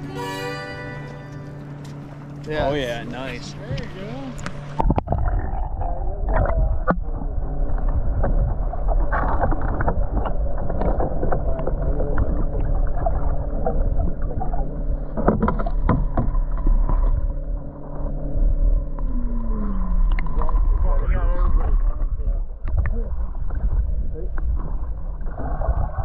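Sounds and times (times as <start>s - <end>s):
steady low hum: 0.0s - 26.0s
underwater river rumble: 1.1s - 26.0s.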